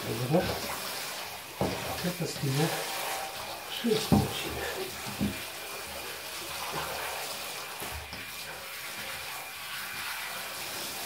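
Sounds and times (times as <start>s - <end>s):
shower water spraying: 0.0s - 11.0s
water splashing into bathtub: 0.0s - 11.0s.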